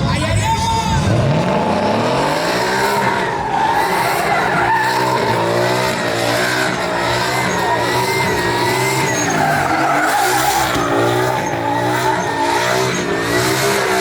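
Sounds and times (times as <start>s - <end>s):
truck engine revving: 0.0s - 14.0s
tyres squealing on pavement: 0.3s - 14.0s.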